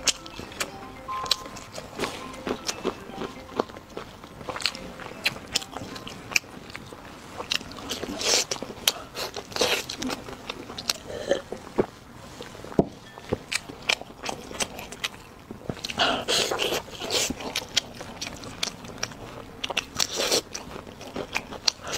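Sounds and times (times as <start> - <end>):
person chewing and crunching: 0.0 - 21.9.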